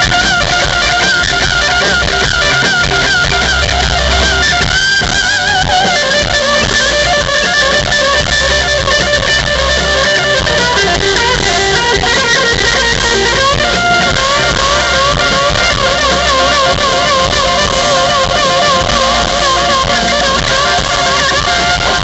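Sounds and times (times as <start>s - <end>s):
bass guitar: 0.0s - 22.0s
electric guitar bent notes: 0.0s - 22.0s
rock band playing: 0.0s - 22.0s.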